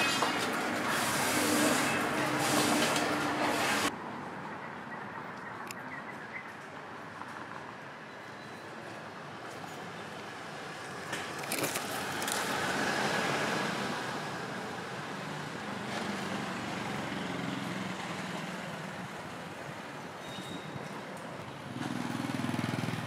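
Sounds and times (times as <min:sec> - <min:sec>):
outdoor traffic noise: 0:00.0 - 0:23.0.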